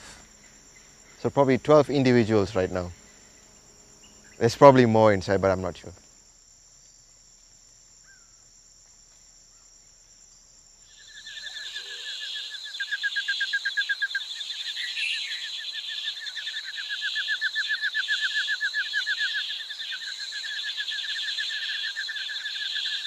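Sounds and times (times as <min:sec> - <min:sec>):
high-pitched insect whine: 0:00.0 - 0:23.0.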